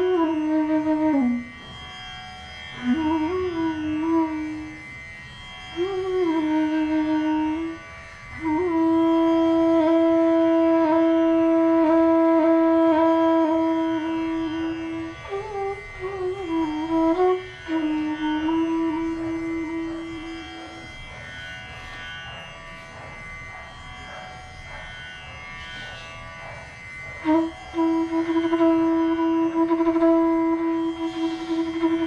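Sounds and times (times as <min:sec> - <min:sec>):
bamboo flute melody: 0:00.0 - 0:21.2, 0:25.8 - 0:32.0
steady drone: 0:00.0 - 0:32.0.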